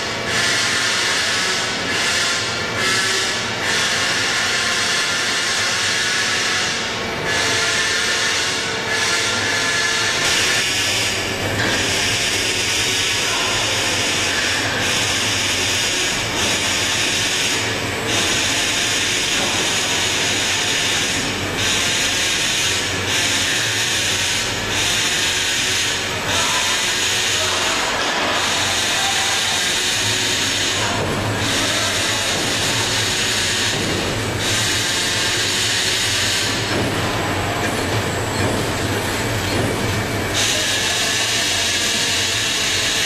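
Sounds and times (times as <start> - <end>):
factory machinery hissing: 0.0 - 43.0.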